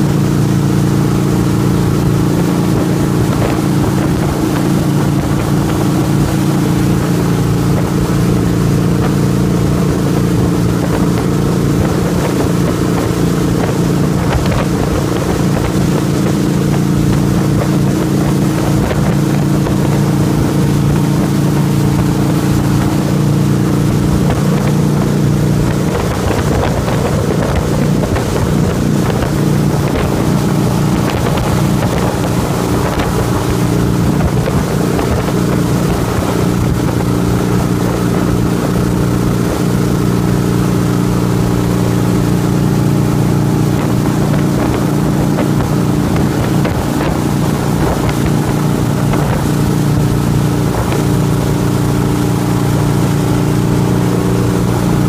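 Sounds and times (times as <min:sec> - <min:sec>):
motorboat engine running: 0:00.0 - 0:55.0
wake water rushing: 0:00.0 - 0:55.0
wind buffeting microphone: 0:00.0 - 0:55.0.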